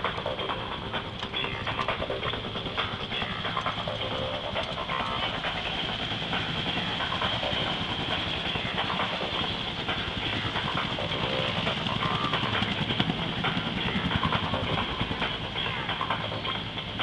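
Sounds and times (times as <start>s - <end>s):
helicopter rotor chopping: 0.0s - 17.0s
high engine whine: 0.0s - 17.0s.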